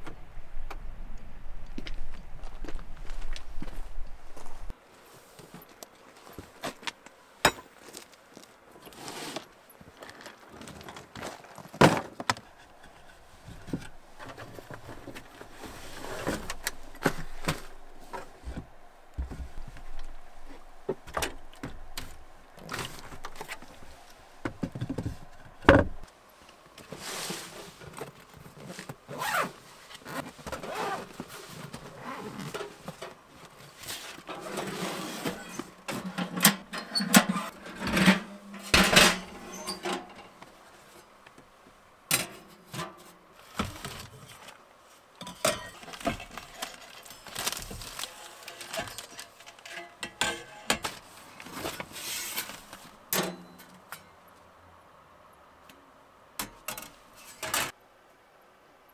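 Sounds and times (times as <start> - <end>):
camping gear knocks and rustling: 5.3 - 26.1, 26.7 - 41.5, 42.1 - 54.1.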